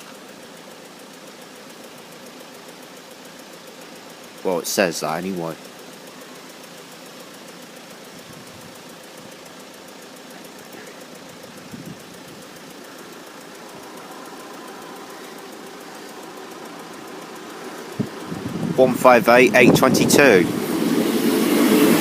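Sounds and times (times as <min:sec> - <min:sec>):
diesel train engine drone: 0:00.0 - 0:22.0.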